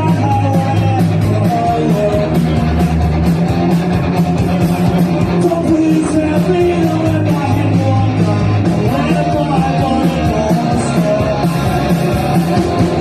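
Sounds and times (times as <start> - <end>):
bass and guitar: 0.0 - 13.0
drum and cymbal hits: 0.0 - 13.0.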